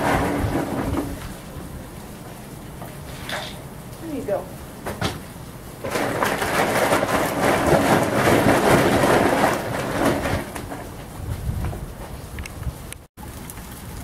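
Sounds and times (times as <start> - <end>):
steady rain: 0.0 - 14.0
thunder rumbling: 0.0 - 14.0.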